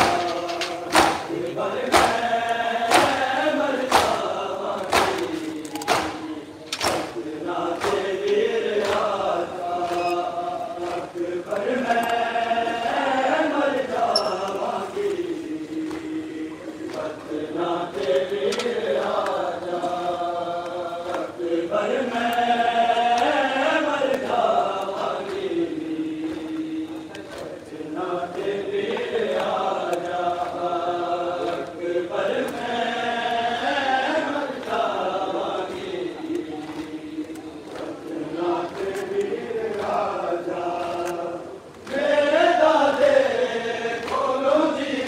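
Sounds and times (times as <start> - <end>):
crowd of men chanting: 0.0 - 45.0.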